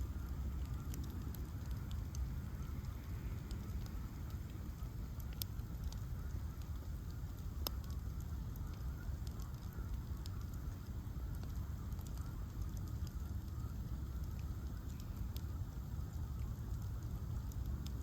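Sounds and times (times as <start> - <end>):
bonfire crackling and popping: 0.0 - 18.0
low fire rumble: 0.0 - 18.0.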